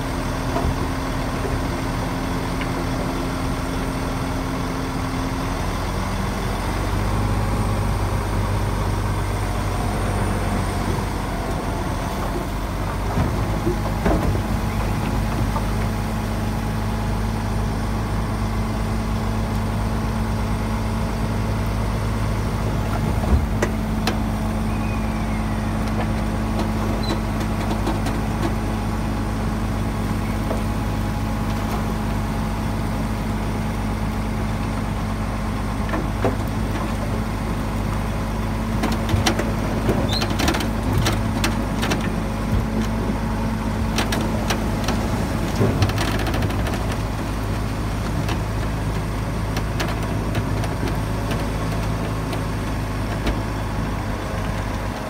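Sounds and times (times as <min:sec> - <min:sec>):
heavy machinery diesel engine running: 0:00.0 - 0:55.0.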